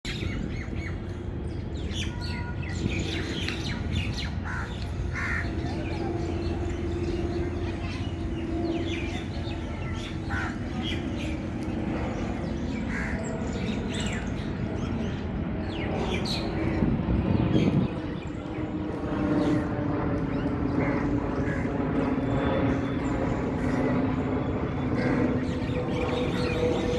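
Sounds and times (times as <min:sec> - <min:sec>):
birds chirping: 0:00.1 - 0:26.9.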